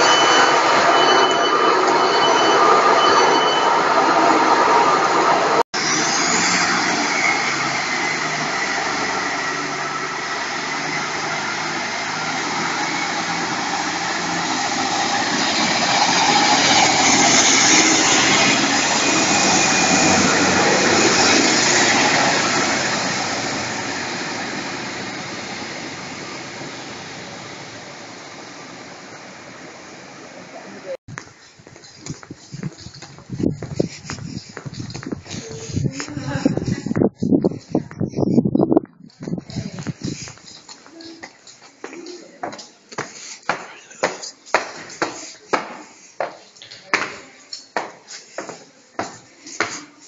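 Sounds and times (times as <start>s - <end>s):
train rushing: 0.0s - 41.2s.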